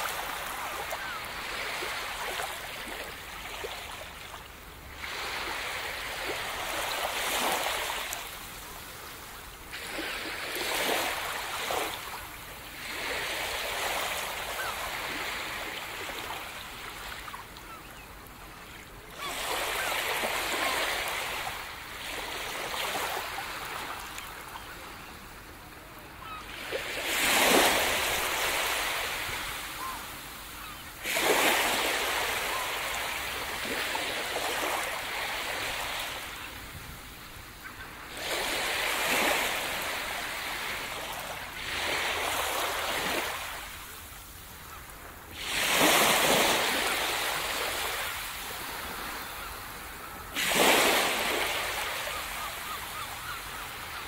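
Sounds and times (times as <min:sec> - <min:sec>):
small waves breaking on sand: 0:00.0 - 0:54.0.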